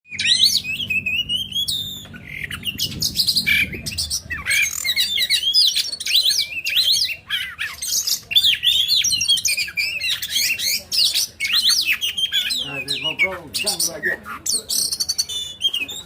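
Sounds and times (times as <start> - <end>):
songbird whistling and chirping: 0.1 - 16.0.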